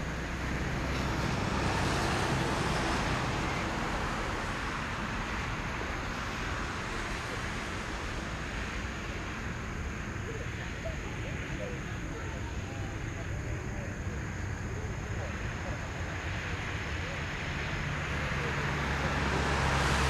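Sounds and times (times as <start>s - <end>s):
jet engines roaring at takeoff: 0.0s - 20.0s.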